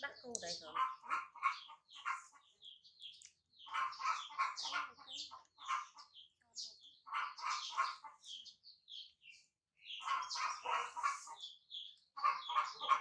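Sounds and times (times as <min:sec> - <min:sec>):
birds chirping: 0:00.0 - 0:13.0
birds clucking: 0:00.0 - 0:13.0.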